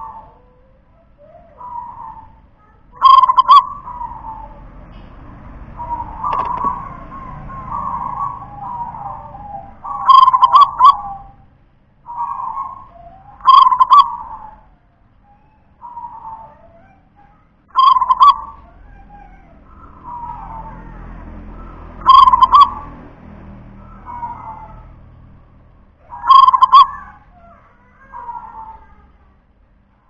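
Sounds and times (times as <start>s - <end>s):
dove cooing: 0.0s - 4.8s, 5.7s - 11.5s, 12.1s - 23.0s, 23.8s - 25.0s, 26.0s - 29.4s.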